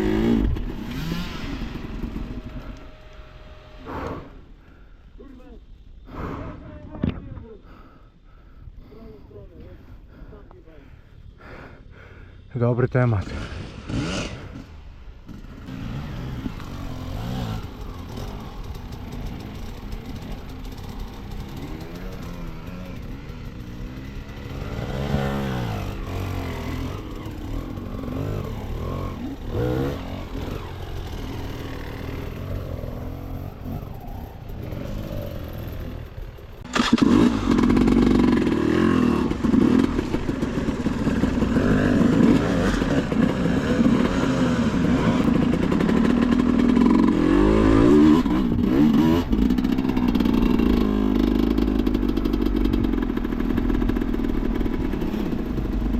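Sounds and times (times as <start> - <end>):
dirt bike engine revving: 0.0 - 4.6, 13.2 - 55.9.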